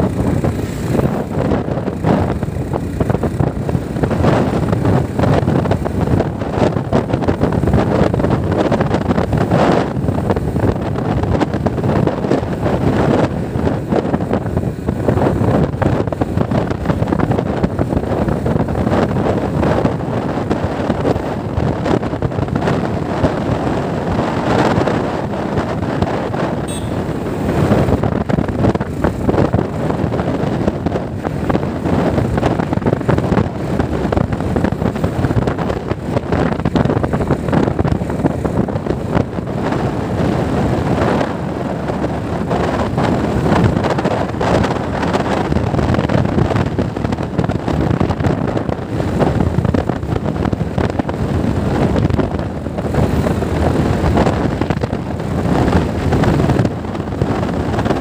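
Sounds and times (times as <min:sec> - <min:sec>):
vehicle and road noise: 0:00.0 - 0:58.0
wind buffeting microphone: 0:00.0 - 0:58.0.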